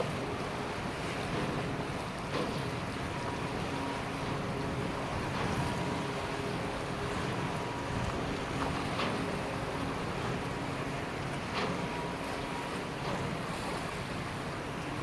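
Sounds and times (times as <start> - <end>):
strong wind and sea: 0.0 - 15.0.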